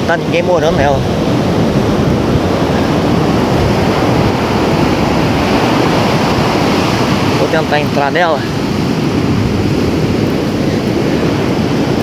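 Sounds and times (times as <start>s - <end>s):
ocean surf washing up: 0.0s - 12.0s
wind buffeting microphone: 0.0s - 12.0s.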